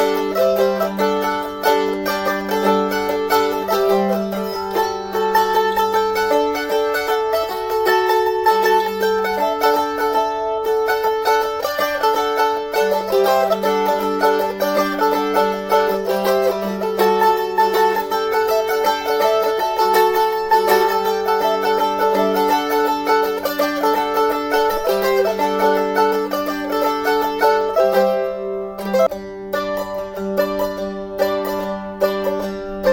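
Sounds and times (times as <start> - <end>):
mandolin picked tune: 0.0 - 32.9.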